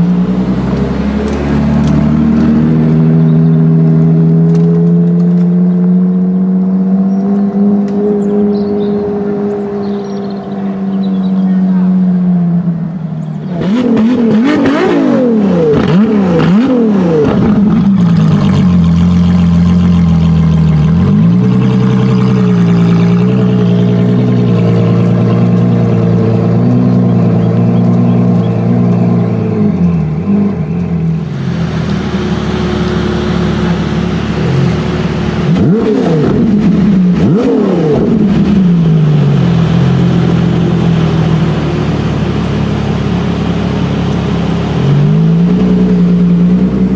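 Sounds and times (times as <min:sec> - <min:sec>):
sports car engine revving: 0:00.0 - 0:46.9.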